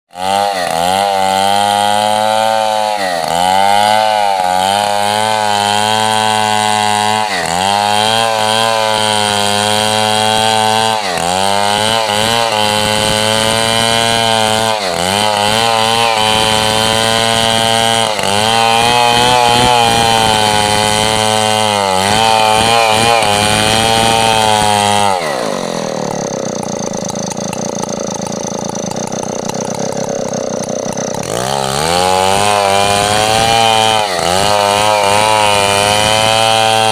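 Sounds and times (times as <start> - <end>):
chainsaw cutting wood: 0.1 - 36.9.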